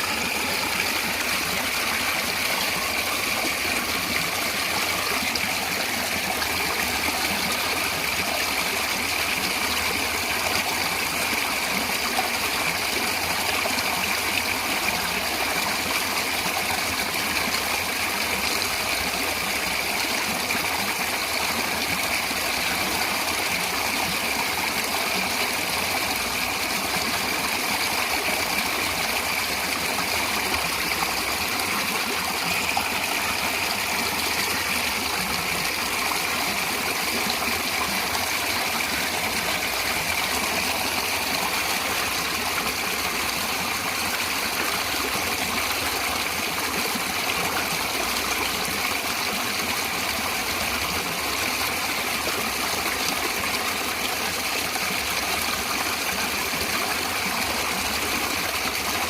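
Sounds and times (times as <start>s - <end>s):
stream flowing and trickling: 0.0s - 59.0s.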